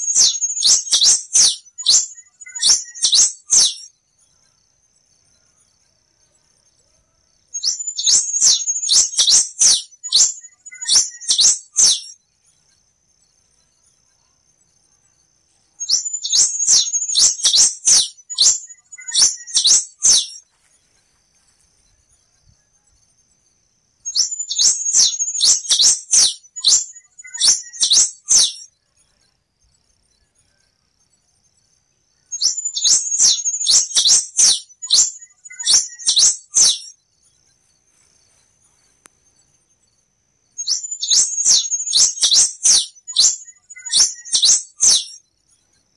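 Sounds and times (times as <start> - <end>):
faint steady high tone: 0.0 - 45.9.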